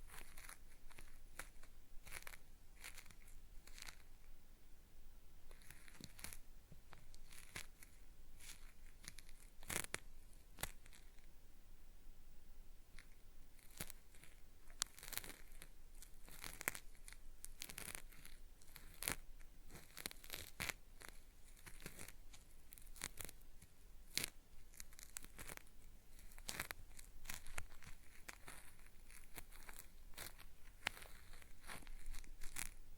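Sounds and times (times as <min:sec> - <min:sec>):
cotton swab scraping microphone: 0:00.0 - 0:04.2, 0:05.5 - 0:11.3, 0:12.9 - 0:32.9.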